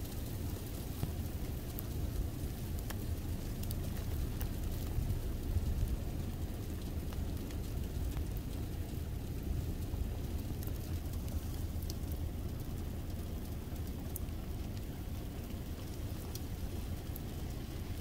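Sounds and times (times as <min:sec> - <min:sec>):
faint ticks: 0:00.0 - 0:17.6
low rumble of road traffic: 0:00.0 - 0:18.0.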